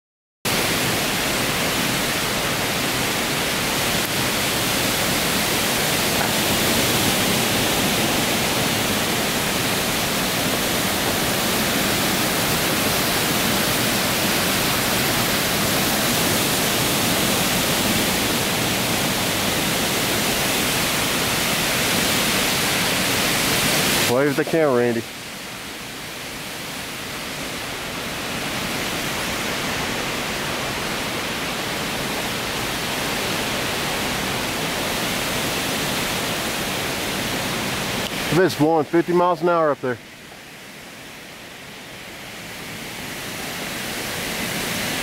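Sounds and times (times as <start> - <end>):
wind rushing through treetops: 0.5 - 45.0.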